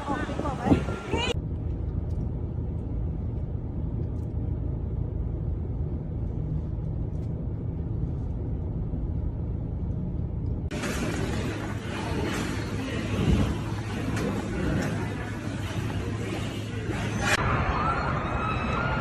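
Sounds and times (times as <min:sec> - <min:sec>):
low steady rumble: 0:00.0 - 0:18.5.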